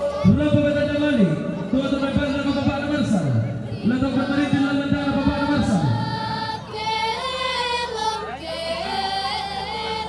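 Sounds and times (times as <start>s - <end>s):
mourners chanting: 0.0s - 10.0s.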